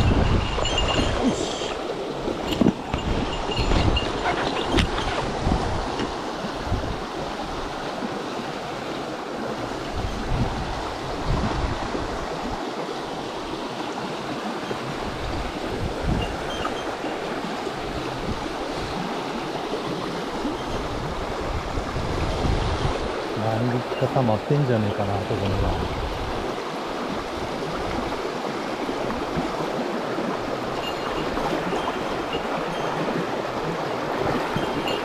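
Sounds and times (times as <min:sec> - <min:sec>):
wind buffeting microphone: 0:00.0 - 0:08.1, 0:09.6 - 0:12.6, 0:14.7 - 0:35.0
stream running over stones: 0:00.0 - 0:35.0.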